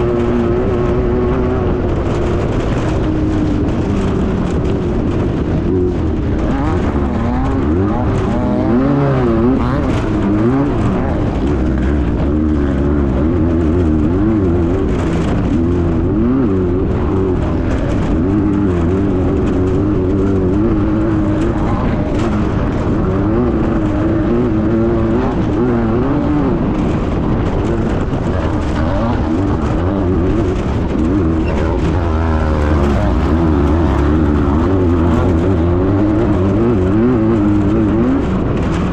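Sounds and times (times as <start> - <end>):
buggy engine running hard: 0.0 - 38.9.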